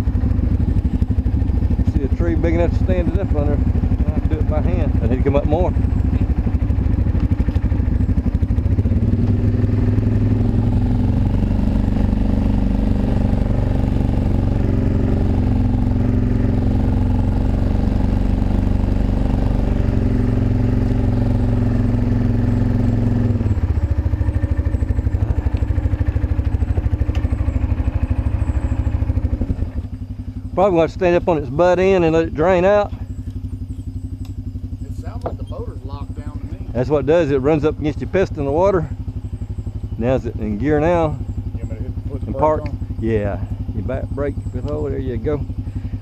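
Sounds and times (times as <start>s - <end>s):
atv engine running: 0.0s - 46.0s
high droning tone: 0.0s - 46.0s.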